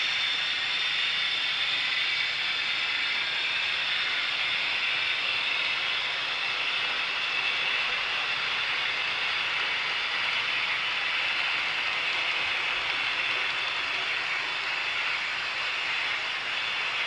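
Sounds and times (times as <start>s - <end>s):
model train rushing noise: 0.0s - 17.0s.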